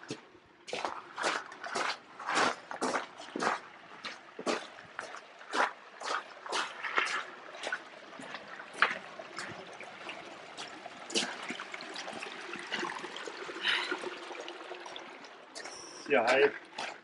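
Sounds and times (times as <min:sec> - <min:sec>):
footsteps in water and stones: 0:00.0 - 0:12.9, 0:15.0 - 0:17.0
stream trickling over gravel: 0:00.0 - 0:17.0.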